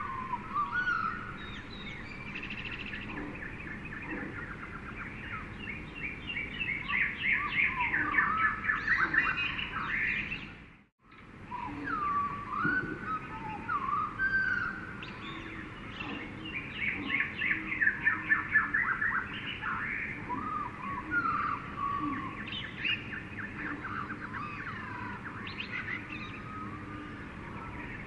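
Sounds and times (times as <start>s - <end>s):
birds calling and singing: 0.0s - 28.0s.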